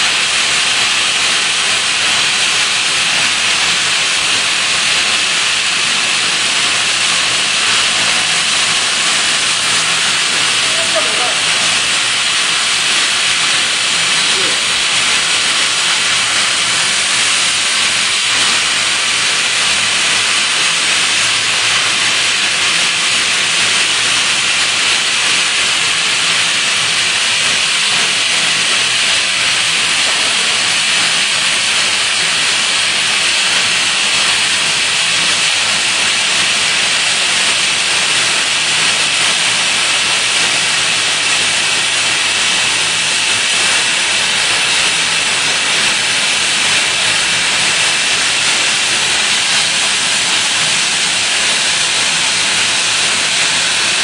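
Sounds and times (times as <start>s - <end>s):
welding machine hissing: 0.0s - 54.0s.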